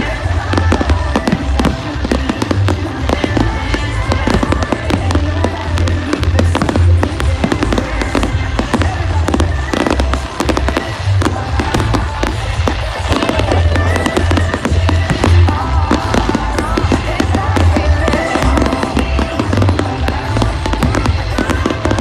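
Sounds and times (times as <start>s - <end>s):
fireworks bursting and crackling: 0.0s - 22.0s
loud music with heavy bass: 0.0s - 22.0s.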